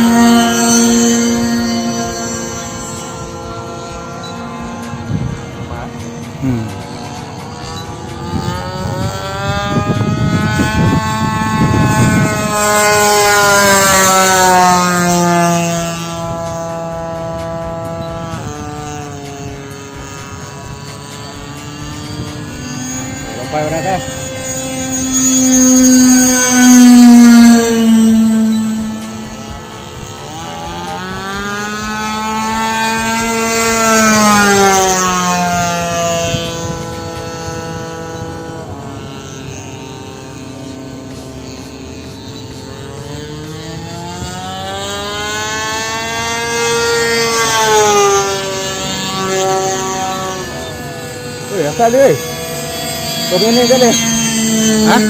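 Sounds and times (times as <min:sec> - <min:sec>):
model plane engine in flight: 0:00.0 - 0:55.0.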